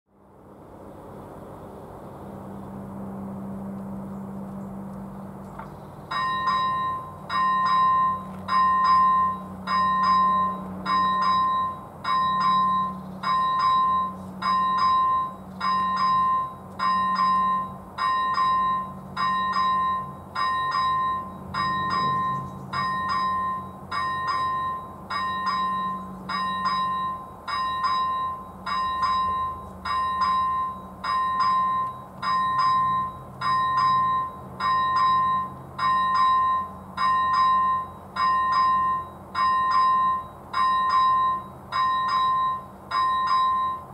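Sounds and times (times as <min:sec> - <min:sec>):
level crossing bell ringing: 0:06.1 - 0:43.9.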